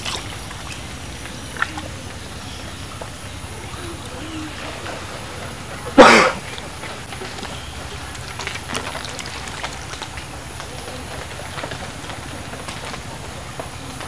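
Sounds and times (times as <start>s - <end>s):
muddy water splash: 0.0s - 14.0s
water sloshing: 0.0s - 14.0s.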